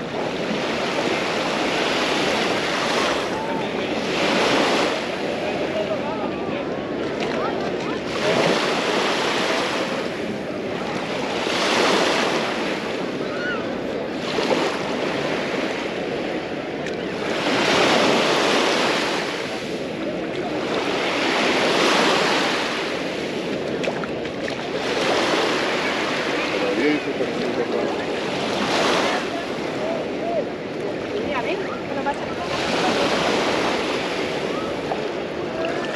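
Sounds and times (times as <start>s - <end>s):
small waves breaking on beach: 0.0s - 35.9s.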